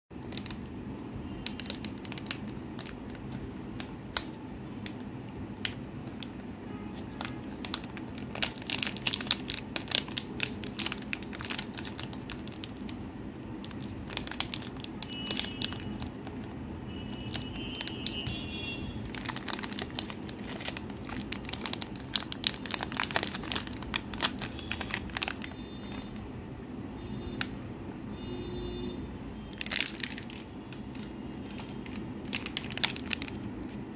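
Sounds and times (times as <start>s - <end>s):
plastic wrapper crinkling and tearing: 0.2s - 26.2s, 29.4s - 33.9s.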